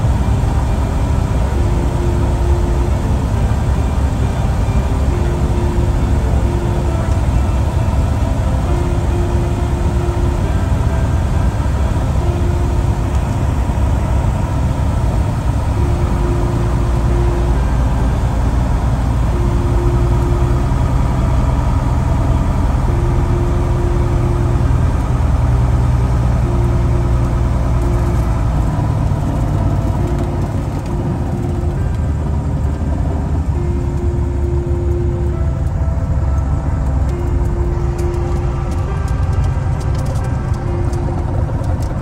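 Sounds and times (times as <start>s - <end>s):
aircraft engine drone: 0.0s - 42.0s
faint low tone: 0.0s - 42.0s.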